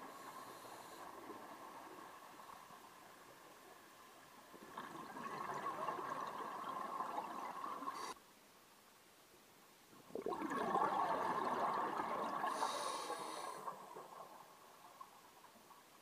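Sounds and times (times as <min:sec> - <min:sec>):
underwater bubbles gurgling: 0:00.0 - 0:08.2, 0:10.0 - 0:15.7.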